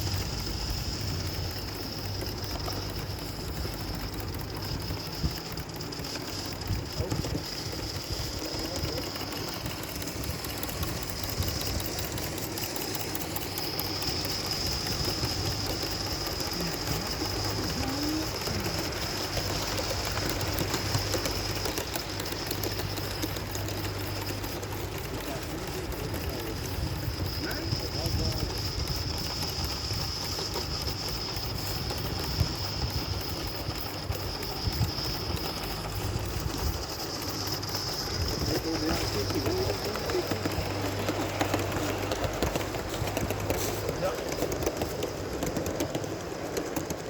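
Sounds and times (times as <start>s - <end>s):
fine rapid ticking: 0.0s - 47.0s
steam hissing: 0.0s - 47.0s.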